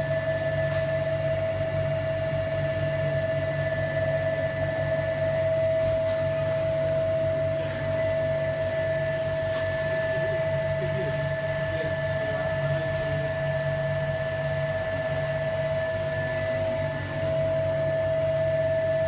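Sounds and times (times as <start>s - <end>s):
high whine of lab machinery: 0.0s - 19.0s
low hum: 0.0s - 19.0s.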